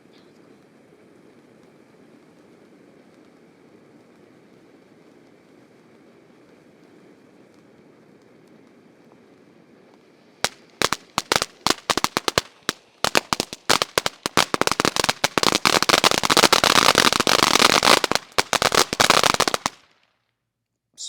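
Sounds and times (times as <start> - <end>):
firework fountain crackling: 0.0 - 20.2.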